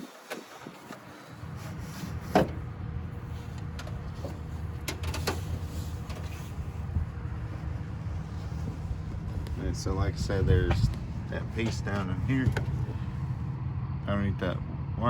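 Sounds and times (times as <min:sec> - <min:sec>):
low steady rumble: 0:01.0 - 0:15.0.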